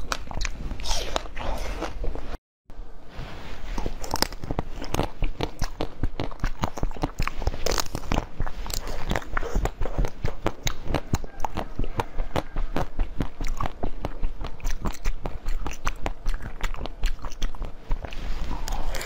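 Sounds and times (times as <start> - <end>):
crunchy biting and chewing: 0.0 - 2.3, 3.8 - 19.0.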